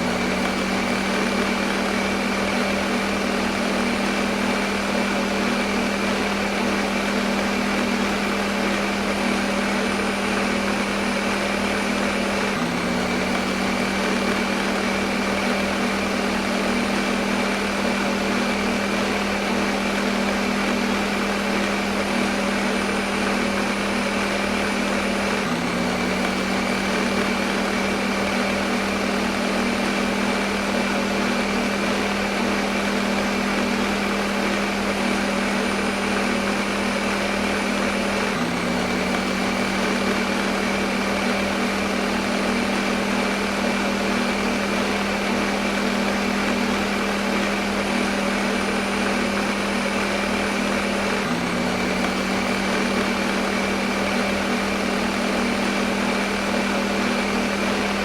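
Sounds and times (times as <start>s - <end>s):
blender motor whirring: 0.0s - 58.0s.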